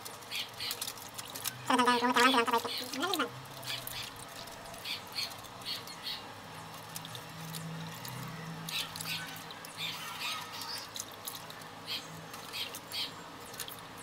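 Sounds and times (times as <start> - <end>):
hands scrubbing meat in water: 0.0 - 5.9, 6.5 - 14.0.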